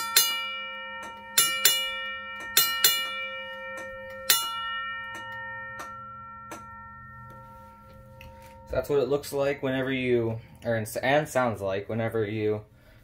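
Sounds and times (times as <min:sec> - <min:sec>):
railroad crossing bell gong: 0:00.0 - 0:10.4.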